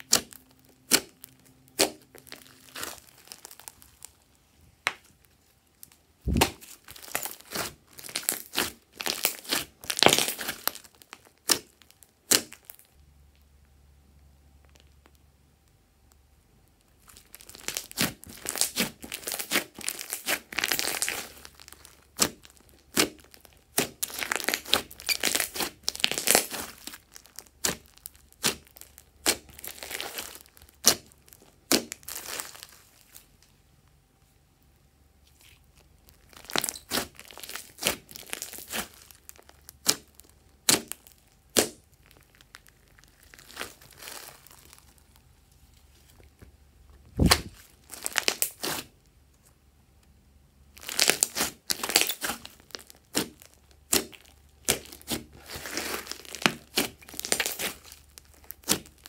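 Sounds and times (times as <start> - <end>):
slime crackling and popping: 0.0 - 13.5, 14.6 - 33.4, 35.3 - 46.5, 47.1 - 49.1, 50.7 - 59.0.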